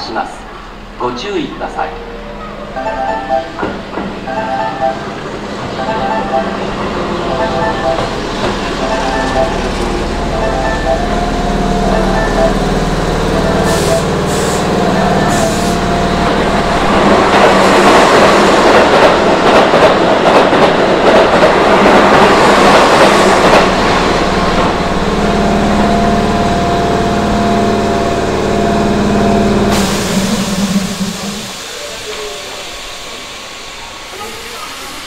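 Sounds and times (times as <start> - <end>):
train machinery humming: 0.0 - 35.0
train passing at speed: 0.0 - 35.0.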